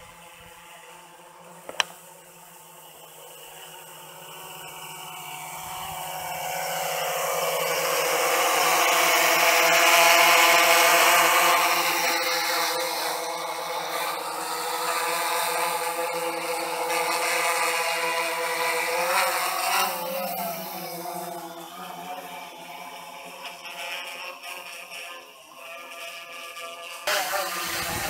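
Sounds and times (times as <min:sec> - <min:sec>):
drone propellers whirring: 0:00.0 - 0:28.0.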